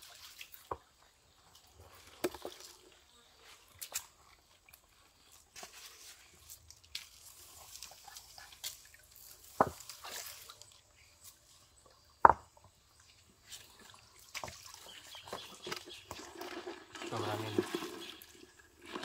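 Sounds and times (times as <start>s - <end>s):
stream water splashing and dripping: 0.0s - 19.0s.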